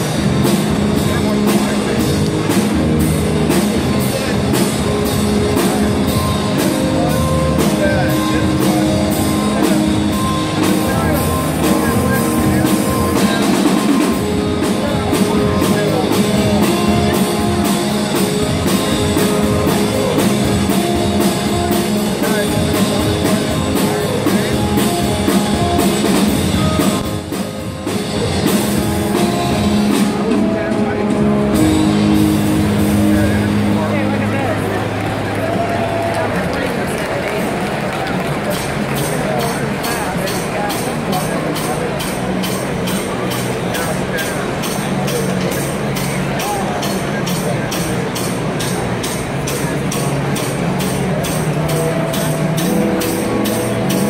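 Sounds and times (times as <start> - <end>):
drum kit beat: 0.0 - 36.2, 38.2 - 54.0
guitar: 0.0 - 54.0
live rock band playing: 0.0 - 54.0.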